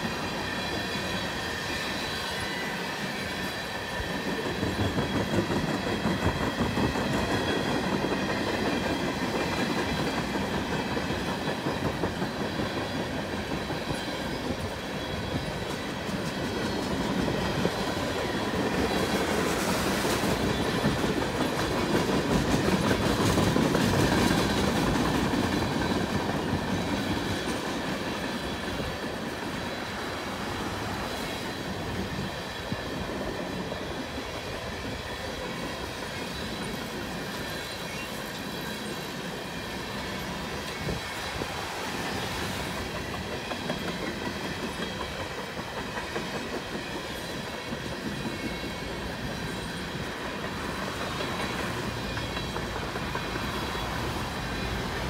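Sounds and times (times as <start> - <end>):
train wheels clicking over rail joints: 0.0 - 55.0.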